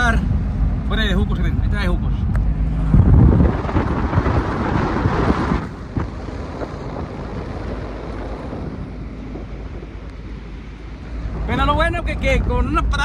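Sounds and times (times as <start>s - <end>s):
vehicle road noise rumble: 0.0s - 13.0s
wind buffeting microphone: 0.3s - 13.0s.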